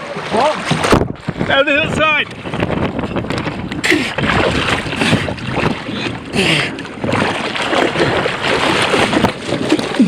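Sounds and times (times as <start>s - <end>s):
water rushing and splashing: 0.0s - 10.0s
strong wind buffeting microphone: 0.6s - 10.0s.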